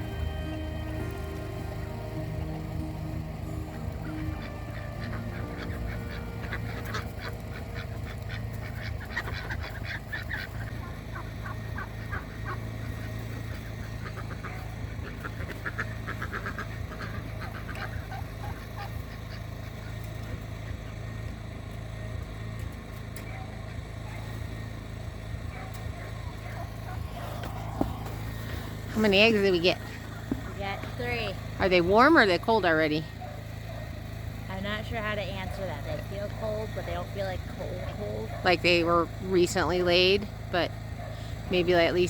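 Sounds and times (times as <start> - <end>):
ducks quacking: 0.0 - 21.6, 25.4 - 42.0
generator humming: 0.0 - 42.0.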